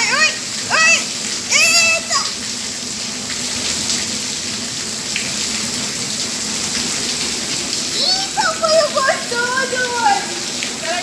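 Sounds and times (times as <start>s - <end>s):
rain falling on concrete and puddles: 0.0s - 11.0s.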